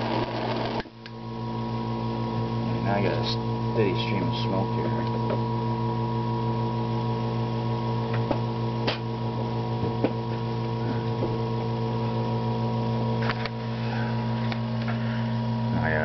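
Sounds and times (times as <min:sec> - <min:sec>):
compressor pump humming: 0:00.0 - 0:16.0.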